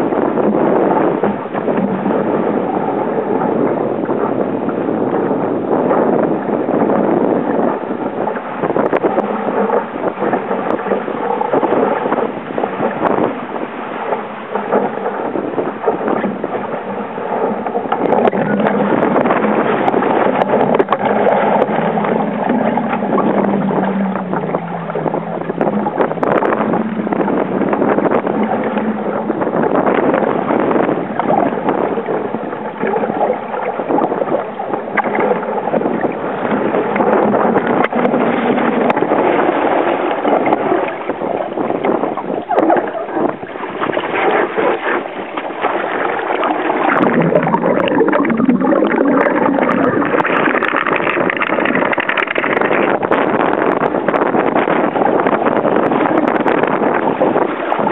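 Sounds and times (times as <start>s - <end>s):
water splashing against hull: 0.0s - 57.9s
wind buffeting microphone: 0.0s - 57.9s.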